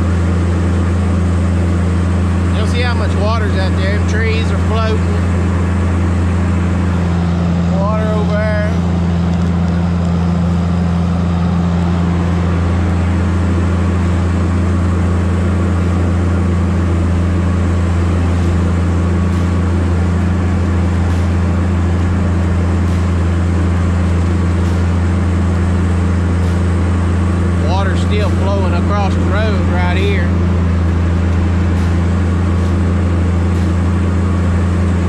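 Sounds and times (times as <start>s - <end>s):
diesel engine droning: 0.0s - 35.0s
machine driving through water: 0.0s - 35.0s.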